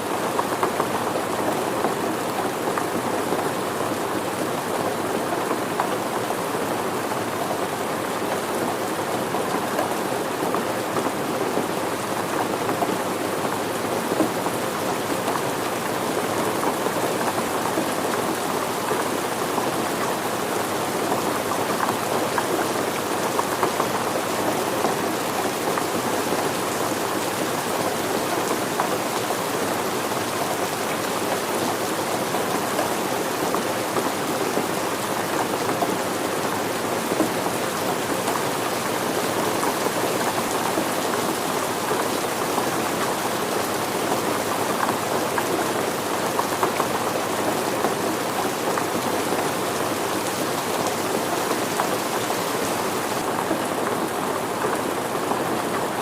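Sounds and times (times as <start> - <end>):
raindrops pattering on surfaces: 0.0 - 56.0
steady rain falling: 0.0 - 56.0.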